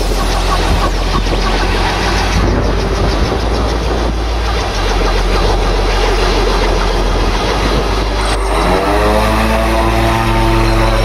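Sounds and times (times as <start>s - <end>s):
helicopter engine running: 0.0s - 11.0s
rotor turning: 0.0s - 11.0s.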